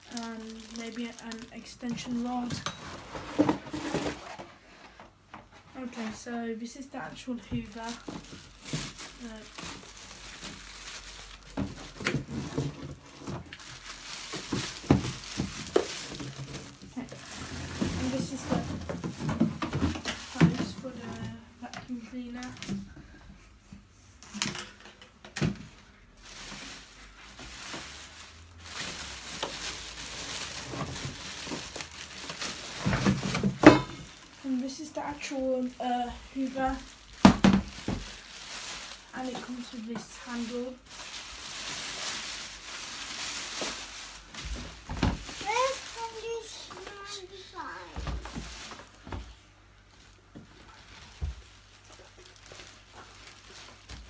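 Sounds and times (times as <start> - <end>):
packaging crinkling and rustling: 0.0 - 6.2, 6.9 - 22.9, 24.2 - 54.0.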